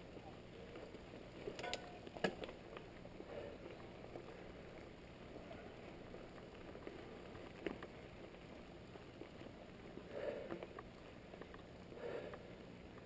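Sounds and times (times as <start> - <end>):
bike tyres rumbling on dirt: 0.0 - 13.0
bike clicks and rattles: 0.2 - 8.6, 10.2 - 13.0.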